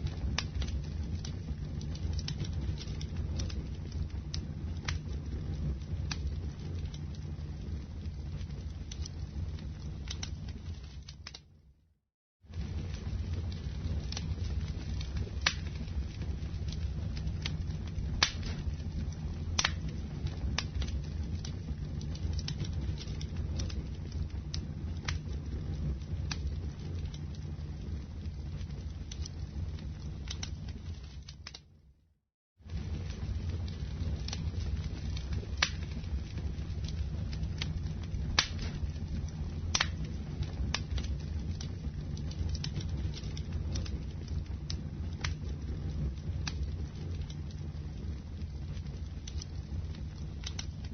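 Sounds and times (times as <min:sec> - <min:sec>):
wood fire crackling: 0:00.0 - 0:11.8, 0:12.5 - 0:32.0, 0:32.6 - 0:50.9
low rumble of flames: 0:00.0 - 0:50.9.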